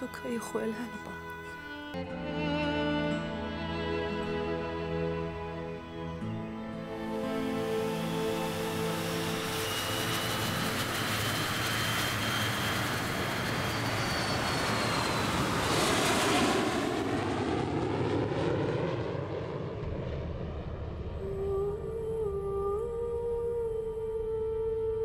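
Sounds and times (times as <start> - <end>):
jet airliner taking off: 1.7 - 22.8.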